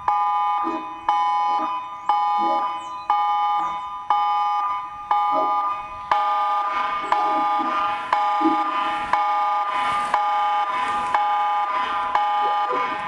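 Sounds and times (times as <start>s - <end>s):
electronic emergency alert tone: 0.0s - 13.0s.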